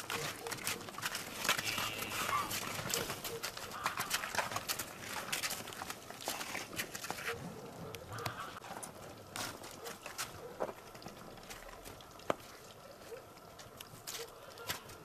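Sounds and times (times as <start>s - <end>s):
cattle drinking: 0.0s - 15.0s
hooves and trough knocking: 0.0s - 15.0s.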